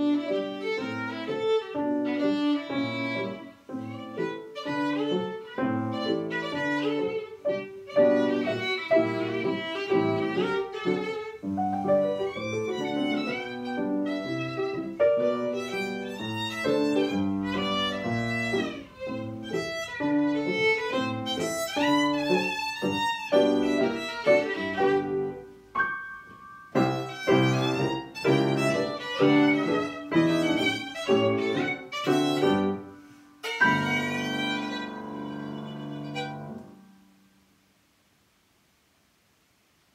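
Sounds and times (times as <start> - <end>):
violin melody: 0.0 - 37.0
piano chords: 0.0 - 37.2.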